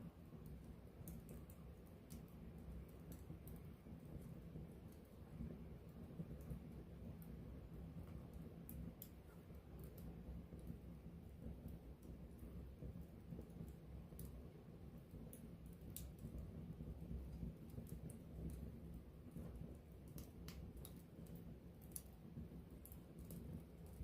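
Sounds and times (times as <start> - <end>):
low rumble of flames: 0.0 - 24.0
wood crackling and popping: 0.0 - 24.0.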